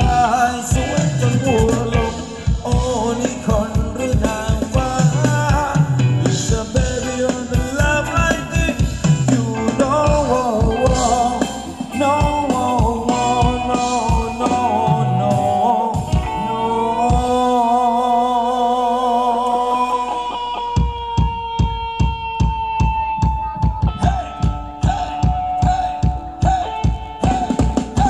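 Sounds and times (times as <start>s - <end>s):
steady drum beat: 0.0s - 17.5s, 20.0s - 28.0s
live band music: 0.0s - 28.0s.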